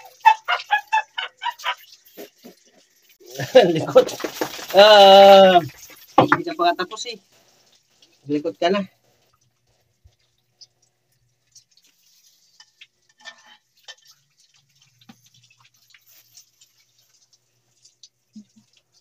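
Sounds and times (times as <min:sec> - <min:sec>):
water splashing on tiled floor: 0:00.0 - 0:19.0.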